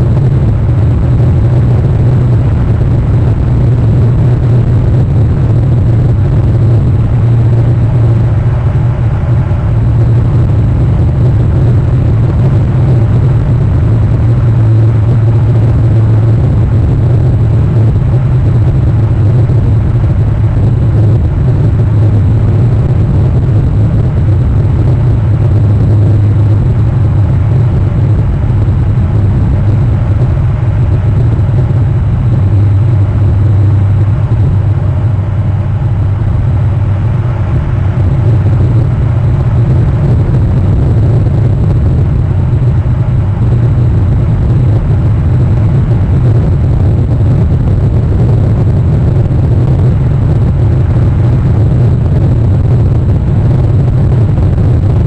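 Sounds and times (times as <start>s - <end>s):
low rumble with hum: 0.0s - 55.0s.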